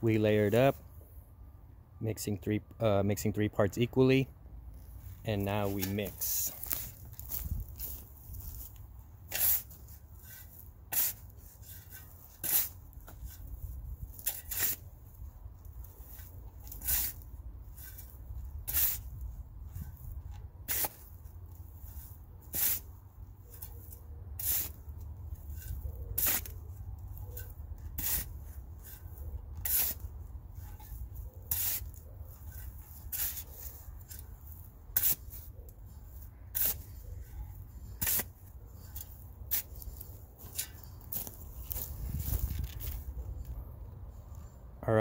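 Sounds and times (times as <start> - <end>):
shovel scraping soil: 4.7 - 43.4.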